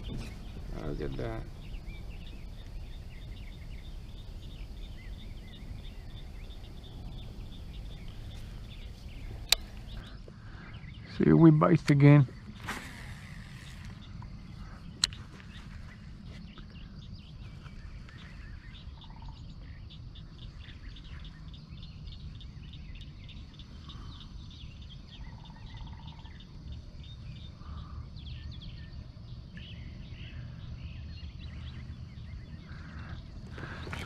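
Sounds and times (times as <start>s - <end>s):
low steady rumble: 0.0s - 33.8s
small birds chirping: 0.0s - 34.0s.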